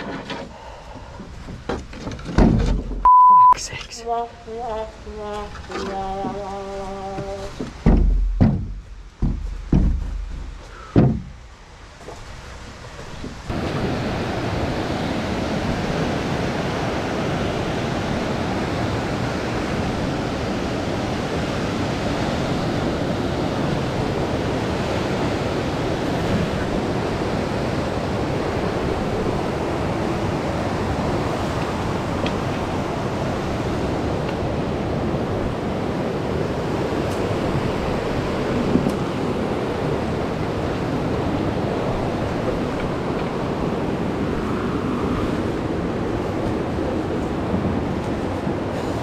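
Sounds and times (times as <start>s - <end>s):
river rapids rushing: 9.0s - 49.0s.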